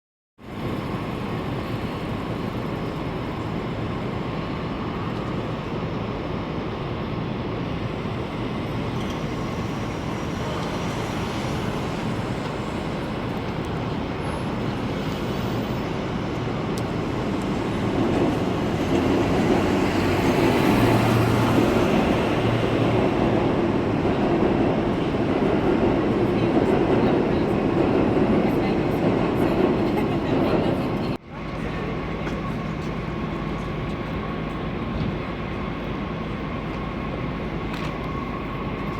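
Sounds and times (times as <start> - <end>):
city street rumble: 0.4 - 38.9.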